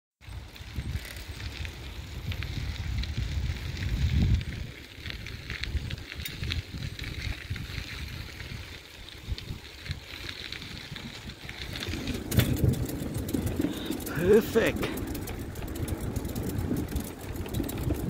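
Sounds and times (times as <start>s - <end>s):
bicycle tyres on gravel: 0.2s - 18.0s
wind rumble on microphone: 0.2s - 18.0s.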